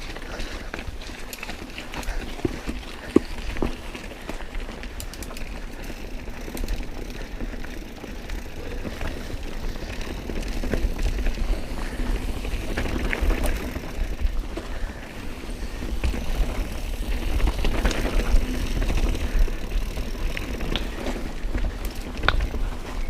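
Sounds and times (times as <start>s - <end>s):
bike clicks and rattles: 0.0s - 23.0s
bike tyres rolling on dirt: 0.0s - 23.0s.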